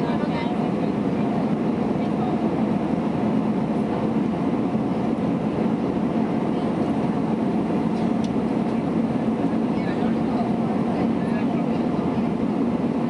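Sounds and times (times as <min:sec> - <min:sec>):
airplane cabin drone: 0:00.0 - 0:13.0
constant low hum: 0:00.0 - 0:13.0.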